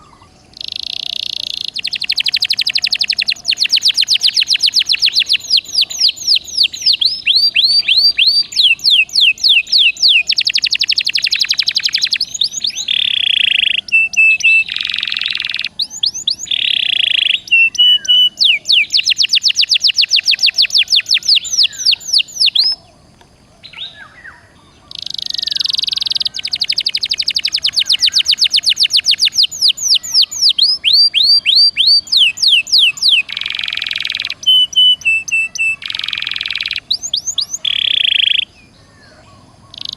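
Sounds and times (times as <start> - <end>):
canary singing: 0.0 - 22.9, 23.6 - 39.9.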